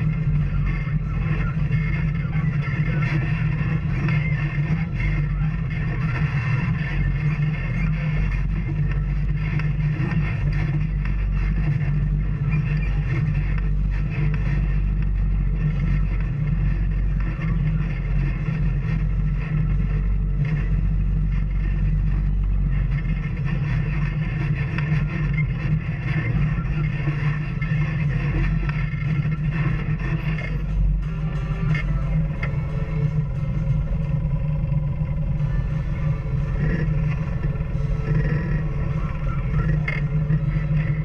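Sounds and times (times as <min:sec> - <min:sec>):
rough road noise: 0:00.0 - 0:41.0
vehicle engine droning: 0:00.0 - 0:41.0.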